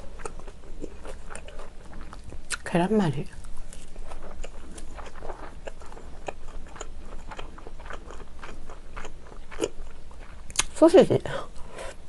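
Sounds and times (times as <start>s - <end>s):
person chewing with wet mouth sounds: 0.0s - 10.8s.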